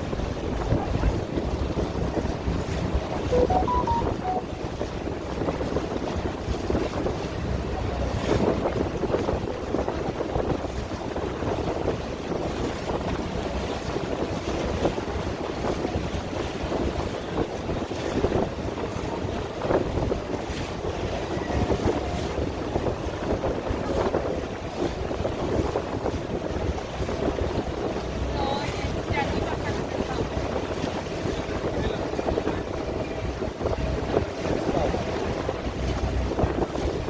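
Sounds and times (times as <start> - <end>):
wind buffeting microphone: 0.0 - 3.3, 4.6 - 37.0
water splashing against boat: 0.0 - 37.0.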